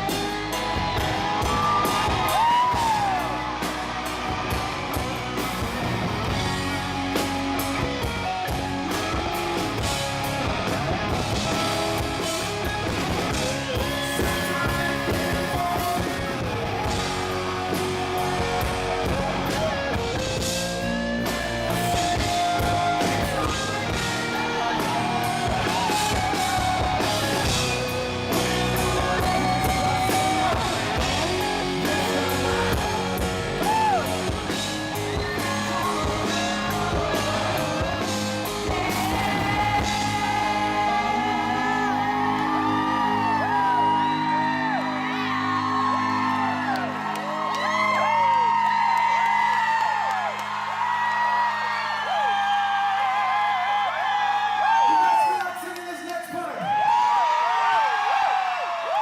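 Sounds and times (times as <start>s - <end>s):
rock band playing live: 0.0s - 52.6s.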